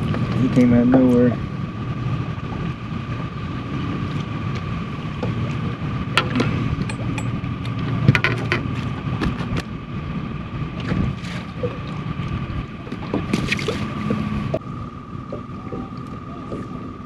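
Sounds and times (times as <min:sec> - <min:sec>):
high-pitched whine: 0:00.0 - 0:17.0
low engine rumble: 0:00.0 - 0:17.0.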